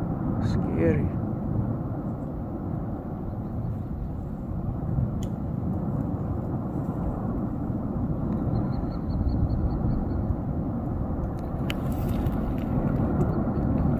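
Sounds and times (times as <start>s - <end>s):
volcano rumbling: 0.0s - 13.9s.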